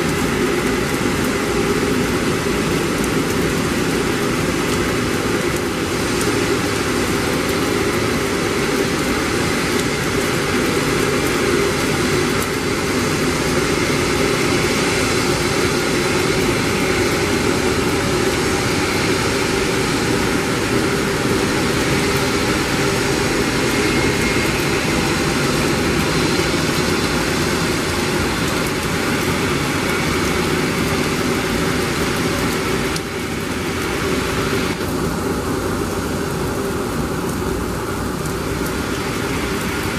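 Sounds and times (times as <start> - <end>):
heavy rain hissing: 0.0 - 39.9
jet engines at taxi power: 0.0 - 39.9.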